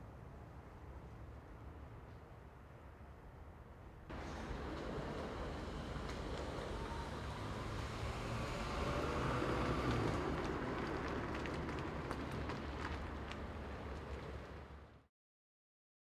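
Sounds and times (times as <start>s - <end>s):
traffic rumble: 0.0s - 15.1s.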